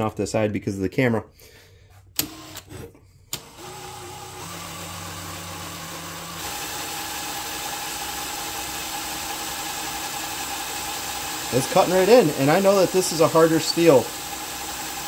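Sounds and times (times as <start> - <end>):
power drill cutting into steel: 2.2 - 15.0.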